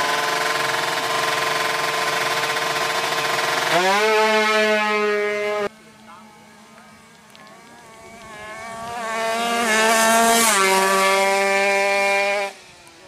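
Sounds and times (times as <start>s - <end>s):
motorcycle engine at full throttle: 0.0s - 13.0s.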